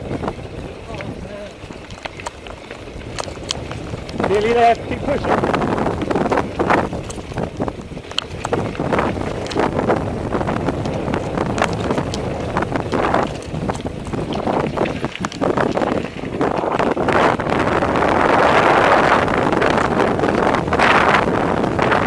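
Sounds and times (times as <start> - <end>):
tyres rolling over stones: 0.0 - 21.1
bike knocking and rattling: 0.0 - 22.0
wind rushing over microphone: 0.0 - 22.0.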